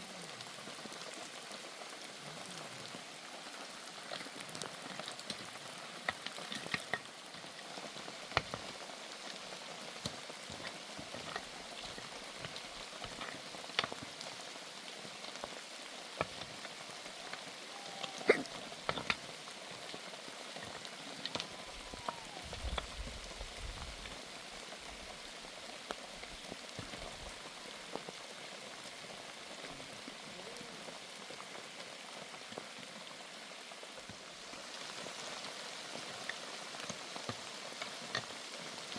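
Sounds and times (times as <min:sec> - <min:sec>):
raindrops ticking on surfaces: 0:00.0 - 0:38.9
steady rain: 0:00.0 - 0:38.9.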